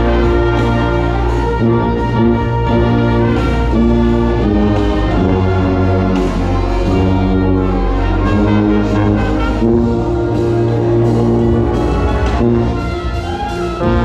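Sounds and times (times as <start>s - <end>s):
brass chords: 0.0s - 14.0s
tuba bass line: 0.0s - 14.0s.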